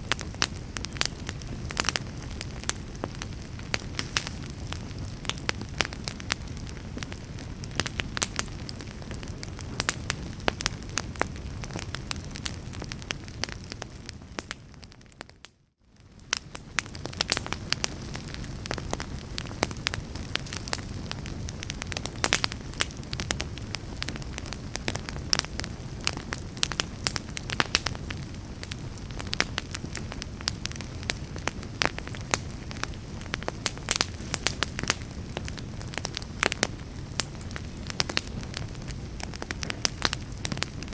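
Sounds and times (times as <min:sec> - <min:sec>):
rush of flame: 0:00.0 - 0:14.4, 0:16.2 - 0:40.9
logs crackling and popping in fire: 0:00.0 - 0:40.9.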